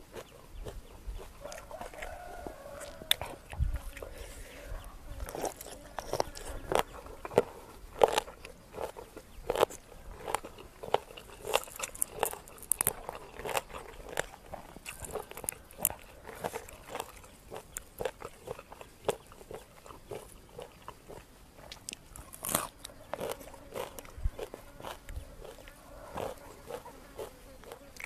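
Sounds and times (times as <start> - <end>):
chewing crunchy food: 0.0 - 28.0.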